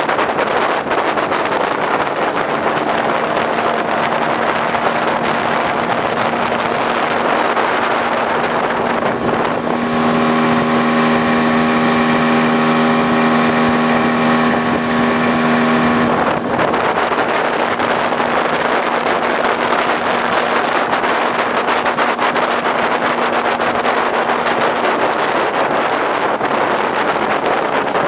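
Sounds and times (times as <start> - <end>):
outboard motor running: 0.0 - 28.0
rushing wind: 0.0 - 28.0.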